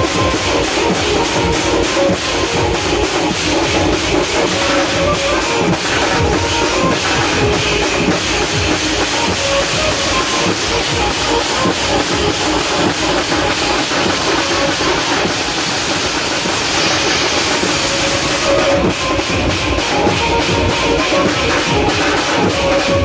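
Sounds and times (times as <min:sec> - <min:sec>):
fast loud drumming: 0:00.0 - 0:23.0.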